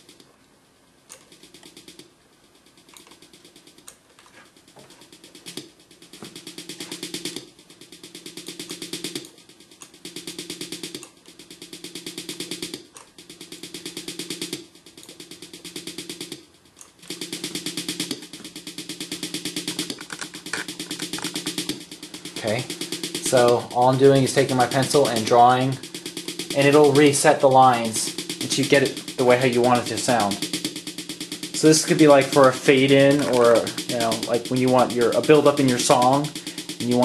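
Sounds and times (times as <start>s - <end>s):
snare drum roll: 5.0s - 16.4s, 17.1s - 37.0s.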